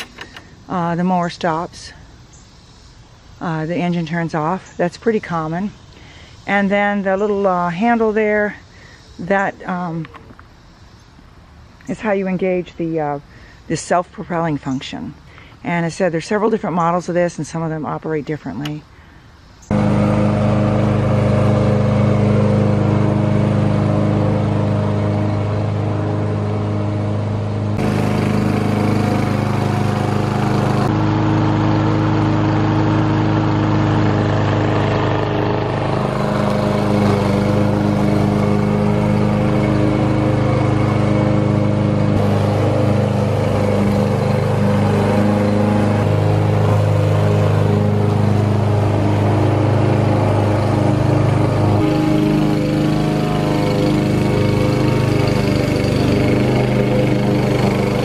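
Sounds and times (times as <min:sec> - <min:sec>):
lawn mower engine mowing grass: 0:00.0 - 0:08.6, 0:19.7 - 0:58.0.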